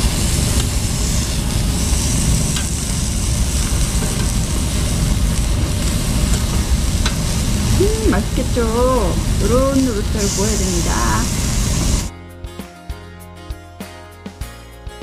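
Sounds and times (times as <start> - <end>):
pork sizzling on a grill: 0.0 - 12.1.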